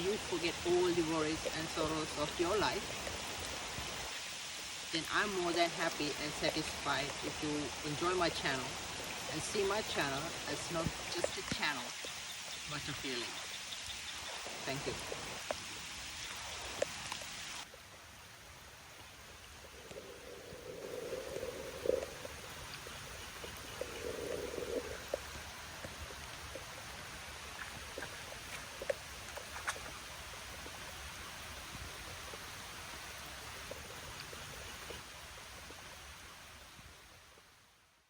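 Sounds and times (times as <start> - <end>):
steady rain with drips: 0.0 - 38.0.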